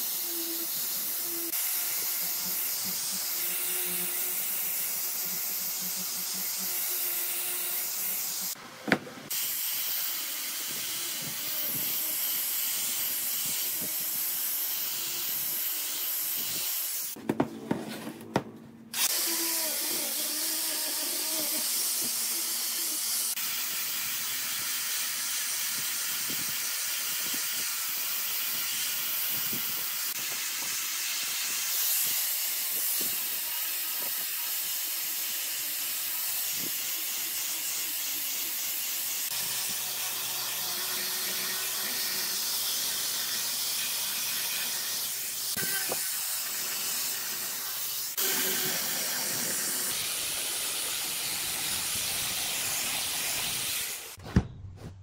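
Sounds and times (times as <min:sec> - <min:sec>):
angle grinder sanding wood: 0:00.0 - 0:17.2, 0:19.0 - 0:54.2.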